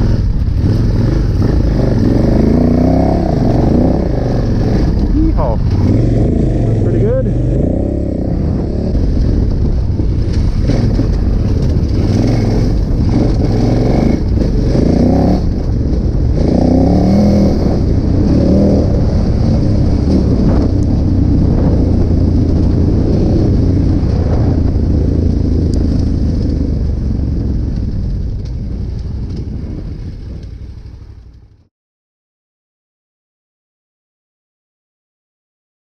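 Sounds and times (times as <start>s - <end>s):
motorcycle engine riding: 0.0s - 31.7s.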